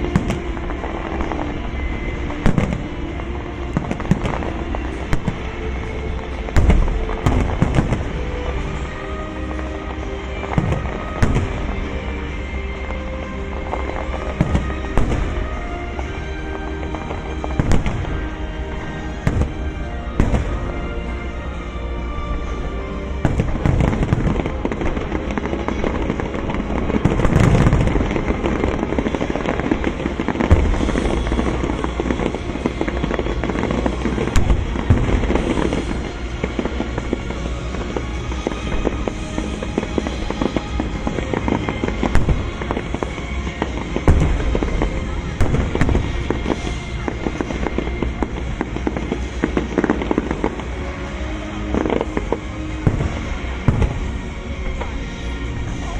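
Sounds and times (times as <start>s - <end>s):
fireworks bangs and crackling: 0.0s - 55.9s
music playing: 0.0s - 55.9s.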